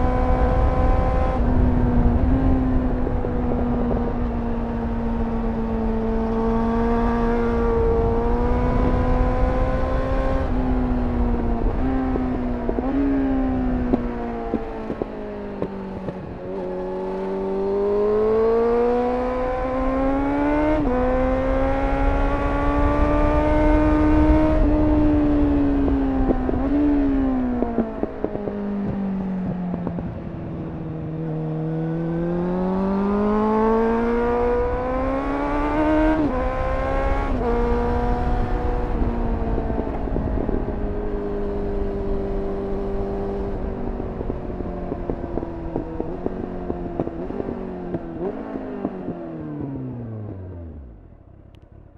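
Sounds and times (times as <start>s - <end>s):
motorcycle engine revving: 0.0s - 51.9s
wind rumbling on microphone: 0.0s - 51.9s.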